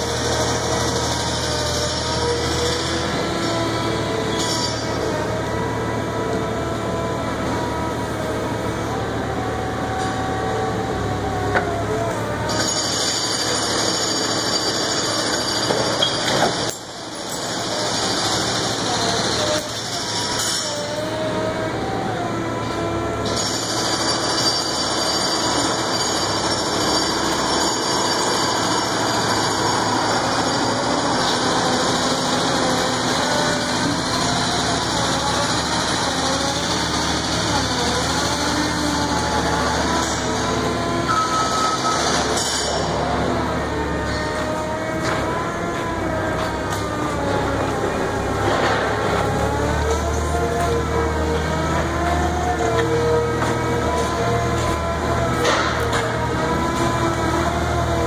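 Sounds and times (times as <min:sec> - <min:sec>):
loader whine: 0:00.0 - 0:58.0.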